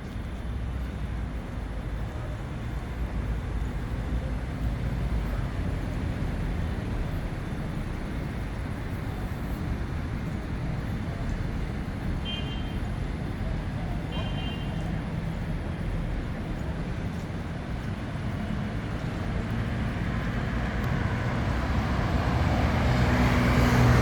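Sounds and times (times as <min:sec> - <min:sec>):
city road traffic: 0:00.0 - 0:24.0.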